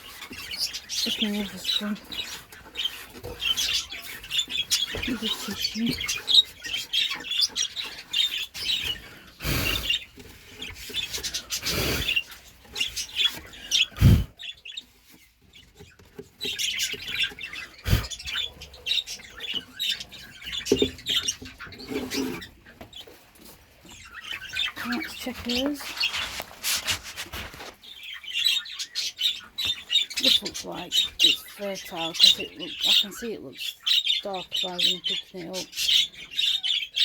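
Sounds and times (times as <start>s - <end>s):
handling rustles in nest box: 0.0s - 33.3s
budgerigars chirping and chattering: 0.0s - 37.0s.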